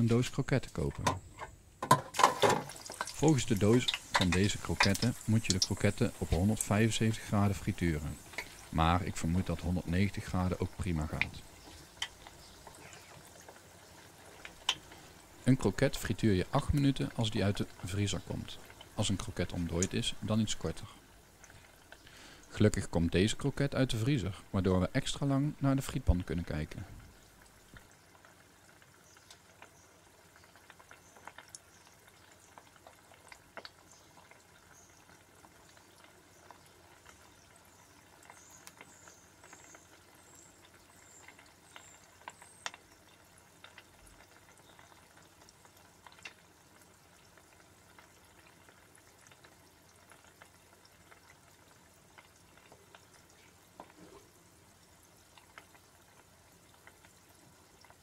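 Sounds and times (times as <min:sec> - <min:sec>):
oil sizzling in deep fryer: 0:00.0 - 0:58.0.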